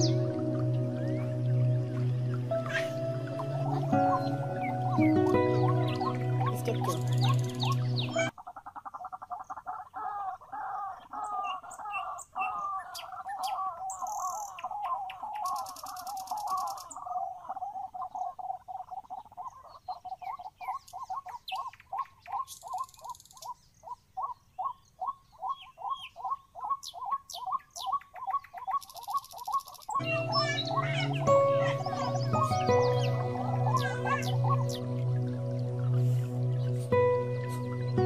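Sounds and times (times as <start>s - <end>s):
waterhen calling: 0.0s - 38.0s.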